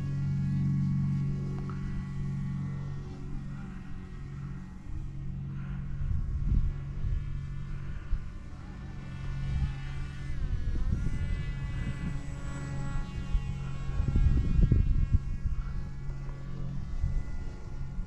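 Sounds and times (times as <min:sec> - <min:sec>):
model plane motor whining: 0:00.0 - 0:18.0
wind buffeting microphone: 0:00.1 - 0:18.0.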